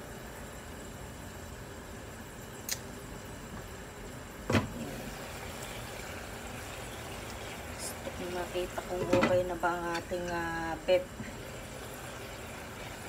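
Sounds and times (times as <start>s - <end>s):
low hiss from cooking pot: 0.0s - 13.0s.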